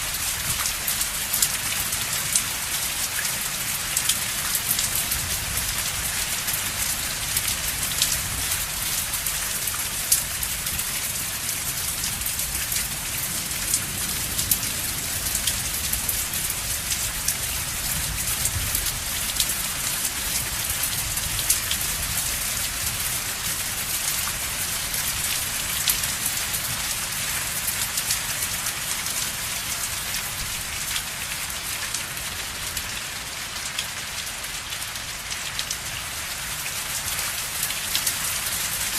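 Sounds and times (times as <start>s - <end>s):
rain hiss: 0.0s - 38.9s
raindrops ticking on surface: 0.0s - 38.9s.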